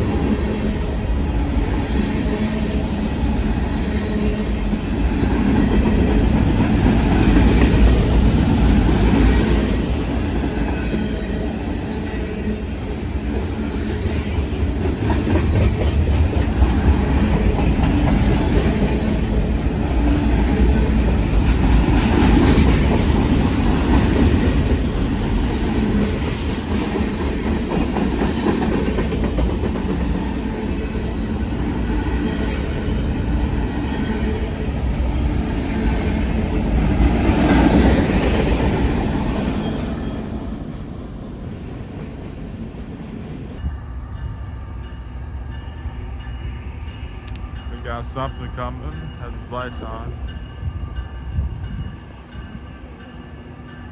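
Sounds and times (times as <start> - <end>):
train wheels rumbling over rails: 0.0 - 43.7.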